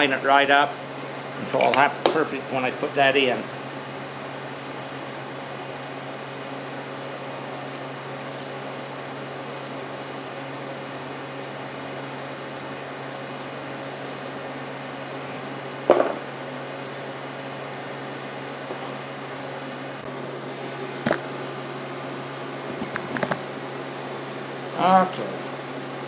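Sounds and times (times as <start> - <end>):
fan-like hum: 0.0 - 26.0.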